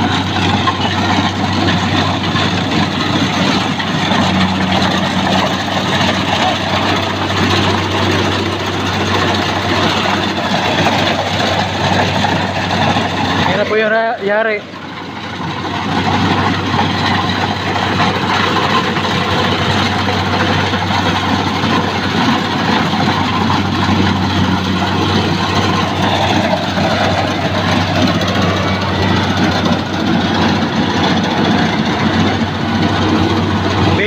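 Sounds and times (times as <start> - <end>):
combine harvester engine drone: 0.0 - 34.0
dense mechanical noise: 0.0 - 34.0.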